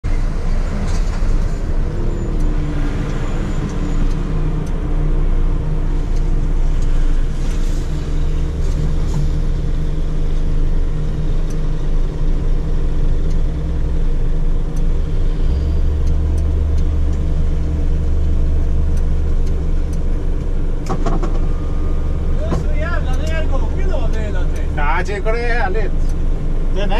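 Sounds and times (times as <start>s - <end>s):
diesel truck engine low drone: 0.0s - 26.9s.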